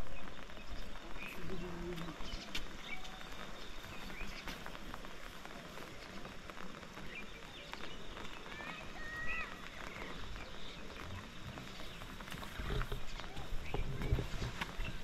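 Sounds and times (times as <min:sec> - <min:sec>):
footsteps on dirt: 0:00.0 - 0:15.0
small birds chirping: 0:00.0 - 0:15.0.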